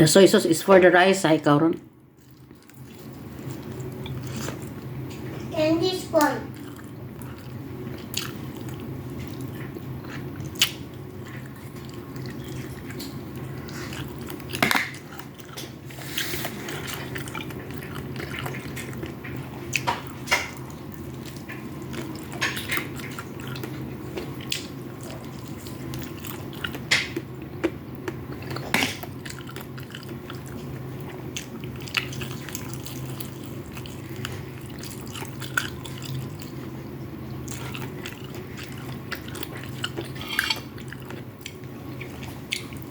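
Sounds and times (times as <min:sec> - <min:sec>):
steady low hum: 0:00.0 - 0:42.9
chewing and wet mouth noises: 0:01.7 - 0:05.5, 0:06.2 - 0:42.9.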